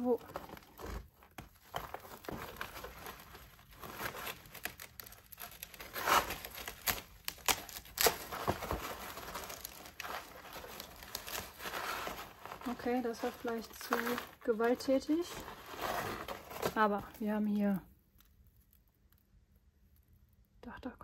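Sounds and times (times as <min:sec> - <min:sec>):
soil rustling onto cardboard: 0:00.0 - 0:18.8
dry roots crackling and snapping: 0:00.0 - 0:19.3.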